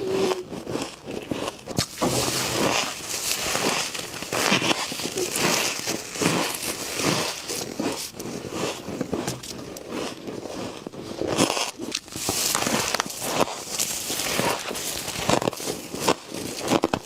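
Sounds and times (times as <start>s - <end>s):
frost being chewed: 0.0s - 17.0s.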